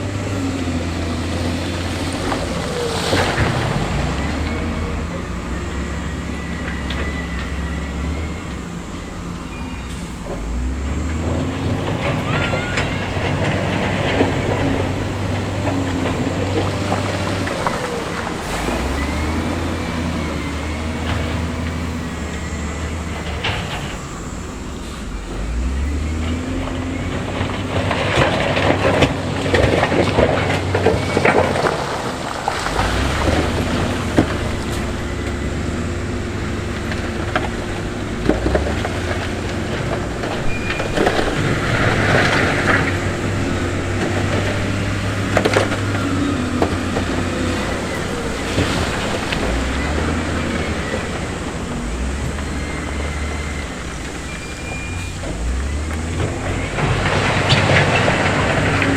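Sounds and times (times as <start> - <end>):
diesel engine under load: 0.0 - 58.9.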